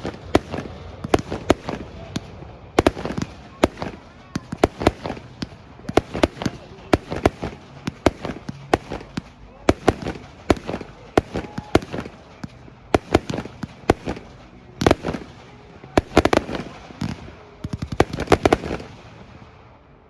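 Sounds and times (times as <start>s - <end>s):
fireworks bangs: 0.0s - 19.7s.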